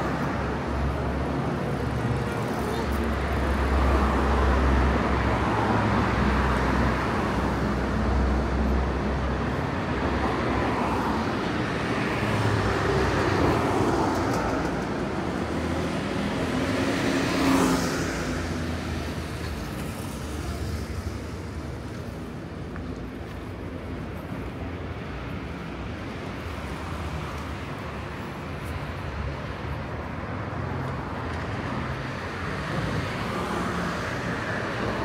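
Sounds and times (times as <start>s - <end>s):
street traffic rumble: 0.0s - 35.0s.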